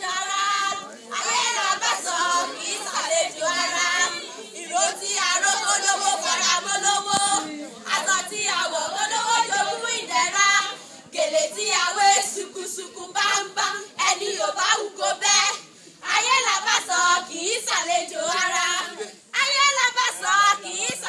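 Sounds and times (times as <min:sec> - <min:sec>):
group singing a cappella: 0:00.0 - 0:21.0.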